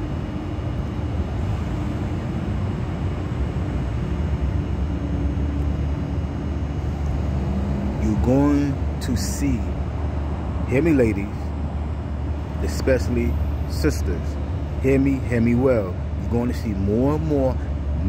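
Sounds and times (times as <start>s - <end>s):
faint hum: 0.0s - 18.0s
urban background rumble: 0.0s - 18.0s.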